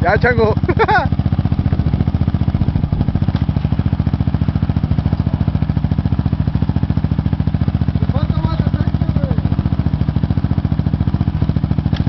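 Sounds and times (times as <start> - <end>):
quad engine idling: 0.0 - 12.0.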